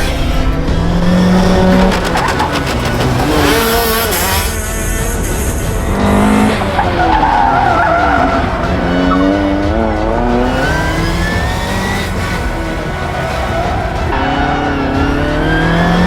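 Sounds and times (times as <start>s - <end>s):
racing engine accelerating: 0.0s - 16.0s
tyres squealing: 1.0s - 14.4s.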